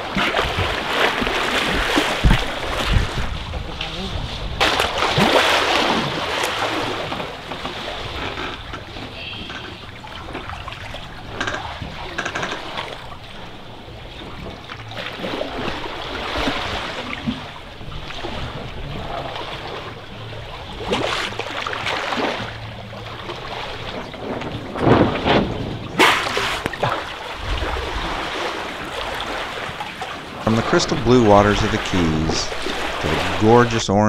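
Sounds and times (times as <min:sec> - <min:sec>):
water rushing along boat bow: 0:00.0 - 0:34.0.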